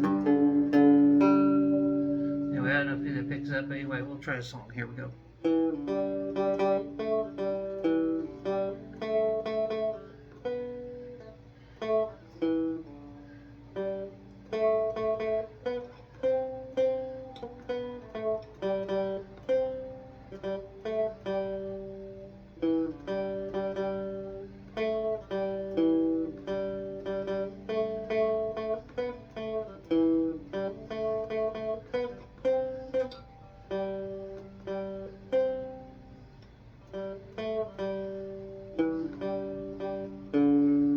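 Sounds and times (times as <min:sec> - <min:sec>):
faint amp hum: 0:00.0 - 0:40.9
plucked guitar melody: 0:00.0 - 0:40.9.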